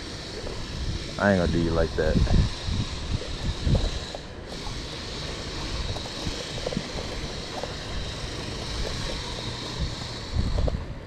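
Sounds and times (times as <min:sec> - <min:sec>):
water slapping hull: 0:00.0 - 0:11.0
wind rumble on microphone: 0:00.0 - 0:11.0.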